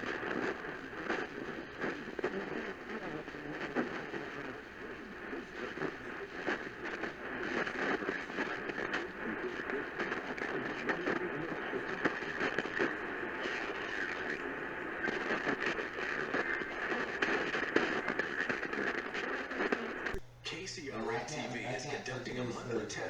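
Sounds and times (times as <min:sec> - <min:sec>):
radio static hiss and crackles: 0:00.0 - 0:23.0.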